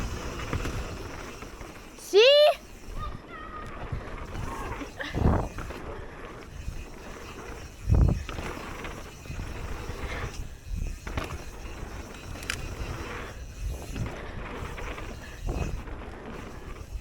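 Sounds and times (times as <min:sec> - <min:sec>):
wind noise: 0:00.0 - 0:01.8, 0:02.6 - 0:17.0
bike tyres rolling over dirt: 0:00.0 - 0:17.0.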